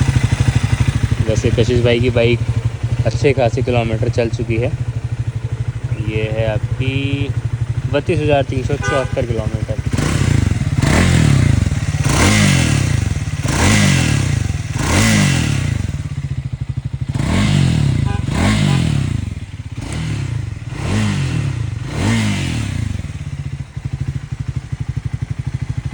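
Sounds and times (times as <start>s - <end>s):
motorcycle engine revving and idling: 0.0s - 25.9s.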